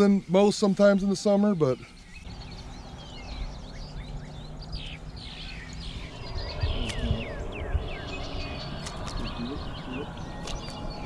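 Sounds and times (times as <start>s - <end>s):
birds chirping: 0.0s - 11.0s
low background rumble: 2.0s - 11.0s.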